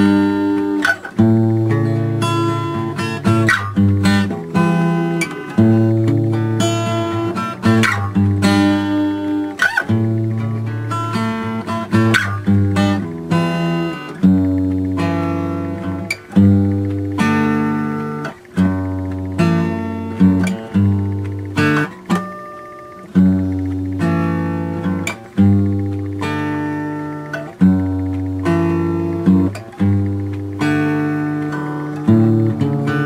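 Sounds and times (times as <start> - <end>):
strummed acoustic guitar: 0.0 - 33.0.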